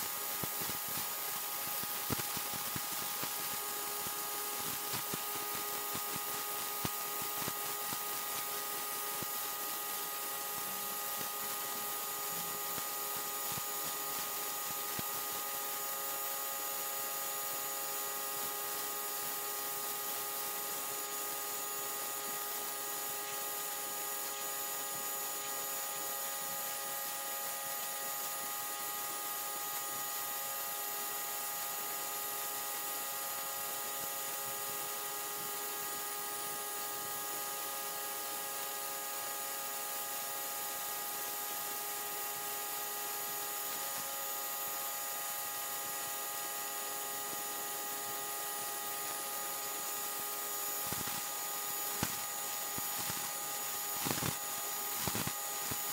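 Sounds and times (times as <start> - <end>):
motor and pump humming: 0.0 - 55.9.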